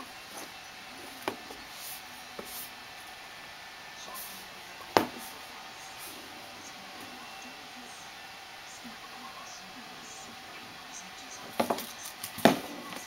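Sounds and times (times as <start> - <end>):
quiet room hiss: 0.0 - 13.0.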